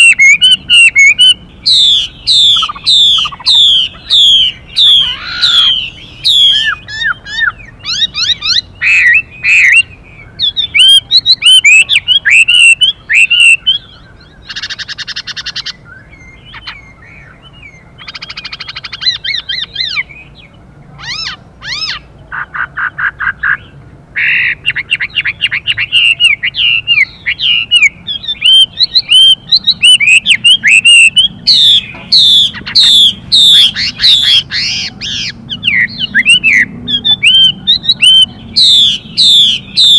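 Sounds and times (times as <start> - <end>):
bird singing whistled phrases: 0.0 - 20.3, 24.3 - 39.9
harsh buzzy bird calls: 0.0 - 39.9.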